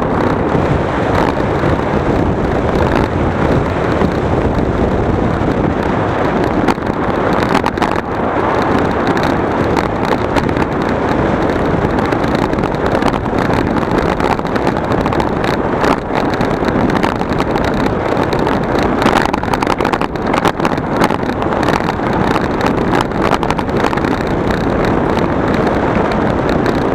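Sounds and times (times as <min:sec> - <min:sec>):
vehicle rushing noise: 0:00.0 - 0:26.9
wind buffeting microphone: 0:00.0 - 0:26.9.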